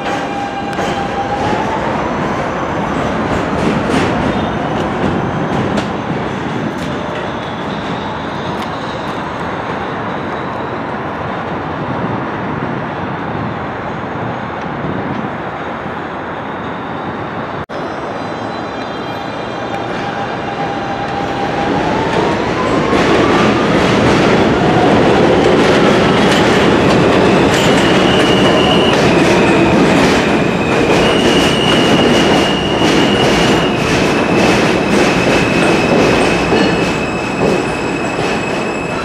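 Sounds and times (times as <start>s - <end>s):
train wheels rumbling on rails: 0.0s - 16.0s, 18.3s - 39.0s.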